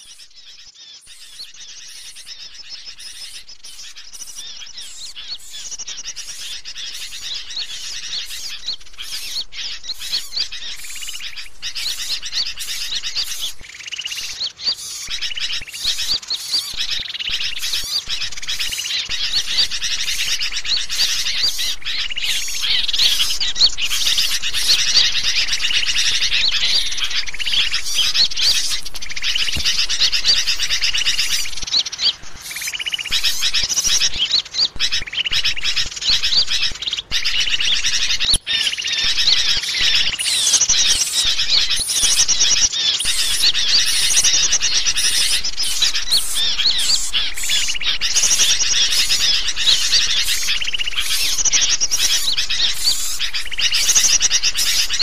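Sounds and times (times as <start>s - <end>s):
songbirds chirping and twittering: 0.0s - 55.0s.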